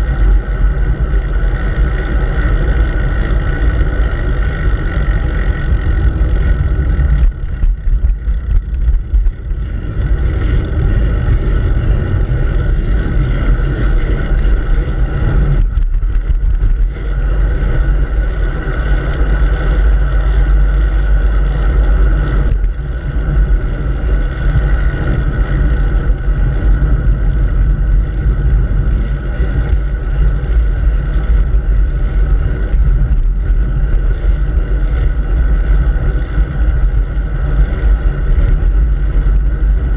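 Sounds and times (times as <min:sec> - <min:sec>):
road vibration rumble: 0:00.0 - 0:39.9
wind buffeting: 0:00.0 - 0:39.9.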